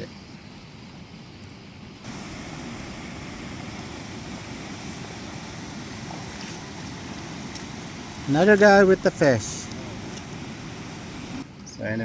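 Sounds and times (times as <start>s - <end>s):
flowing river water: 0.0s - 11.7s
wind buffeting microphone: 0.0s - 11.7s.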